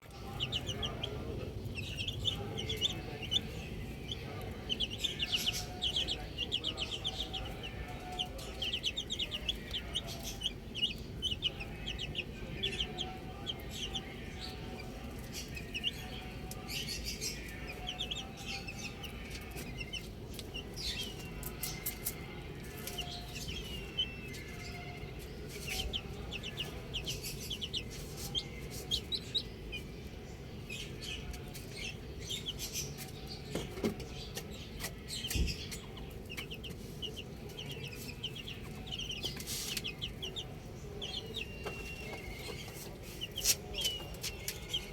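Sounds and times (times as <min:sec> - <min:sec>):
baby chicks peeping: 0:00.0 - 0:44.9.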